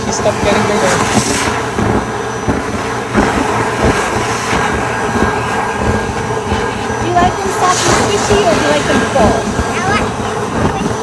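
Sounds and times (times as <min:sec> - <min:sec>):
stuffing machine blowing air: 0:00.0 - 0:11.0.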